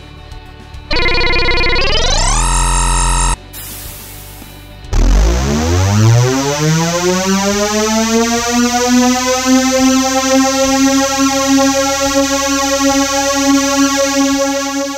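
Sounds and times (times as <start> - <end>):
synthesizer tone gliding upward: 0.9 - 3.4, 4.9 - 14.9.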